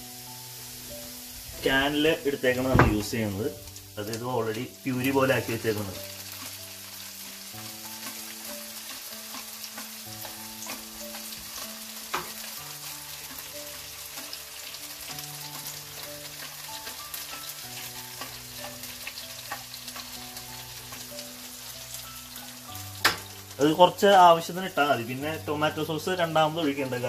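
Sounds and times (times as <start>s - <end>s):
onions sizzling in oil: 0.0s - 27.0s
soft background music: 0.0s - 27.0s.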